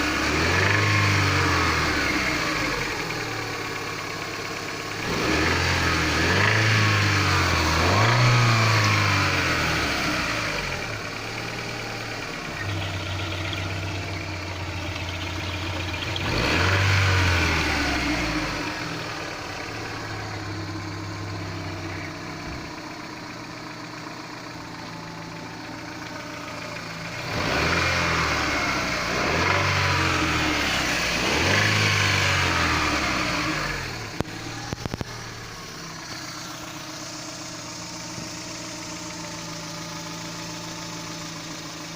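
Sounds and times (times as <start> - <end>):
car engine idling and revving: 0.0 - 41.9
engine knock: 0.0 - 41.9.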